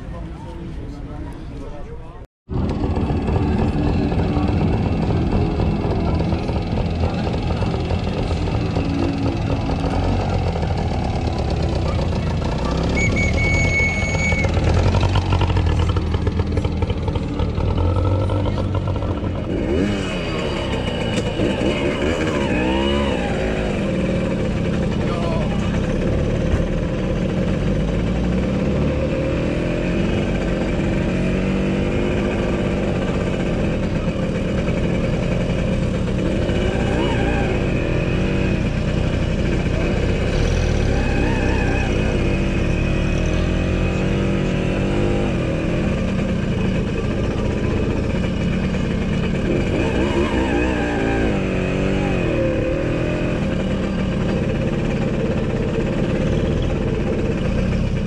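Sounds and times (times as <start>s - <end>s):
car engines running: 0.0s - 58.0s
car engine revving: 2.5s - 58.0s.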